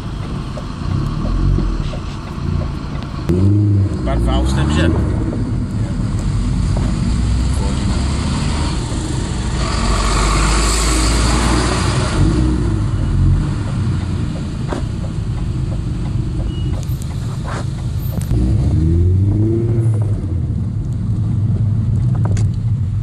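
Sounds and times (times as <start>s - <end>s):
car engine revving: 0.0s - 22.5s
road noise: 0.0s - 23.0s.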